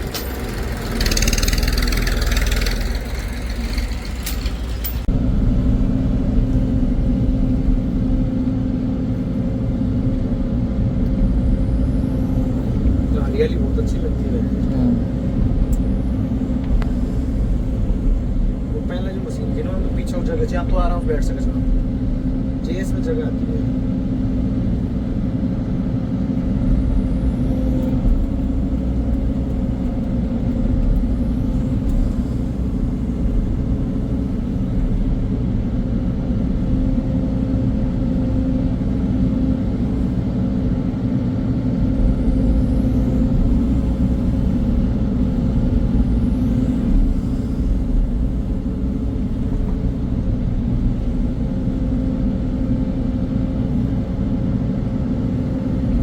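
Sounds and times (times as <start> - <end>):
heavy diesel engine rumbling: 0.0 - 56.0.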